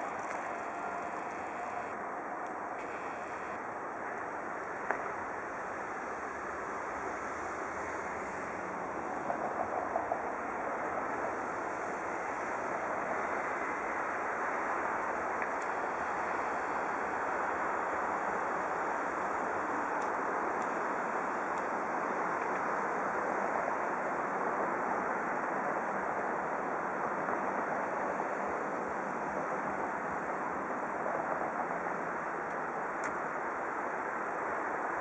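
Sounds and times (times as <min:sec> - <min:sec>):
tram rushing on rails: 0:00.0 - 0:35.0.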